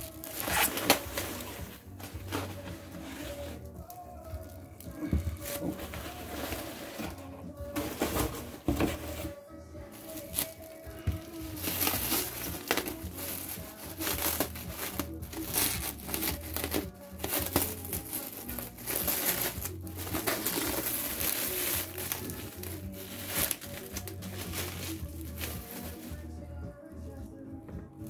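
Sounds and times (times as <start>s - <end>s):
plastic film crinkling: 0.0s - 9.3s, 9.9s - 26.4s
background music: 0.0s - 28.0s.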